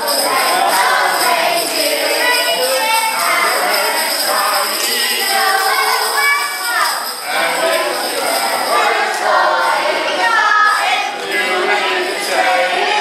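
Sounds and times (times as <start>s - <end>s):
jingle bells shaking: 0.0s - 13.0s
voices singing: 0.0s - 13.0s.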